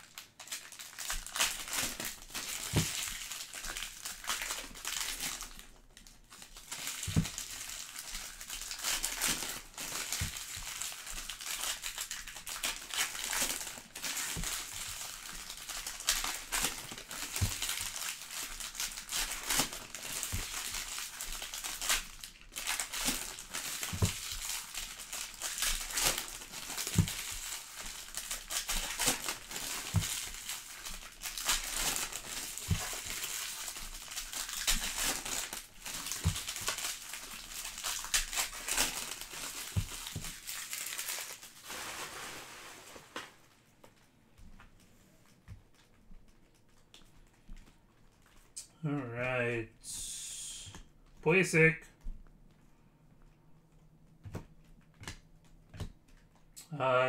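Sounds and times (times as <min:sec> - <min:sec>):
foil wrappers crinkling: 0:00.0 - 0:48.6.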